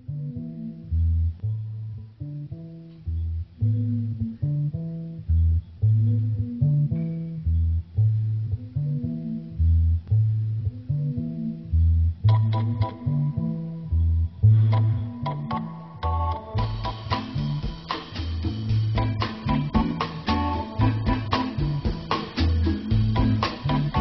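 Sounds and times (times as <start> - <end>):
music with bass riff: 0.0 - 24.0.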